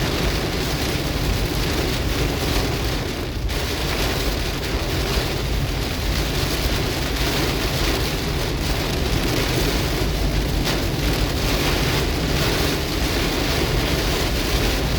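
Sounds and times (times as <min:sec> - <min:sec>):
heavy rain pounding on car: 0:00.0 - 0:14.9
road noise: 0:00.0 - 0:14.9.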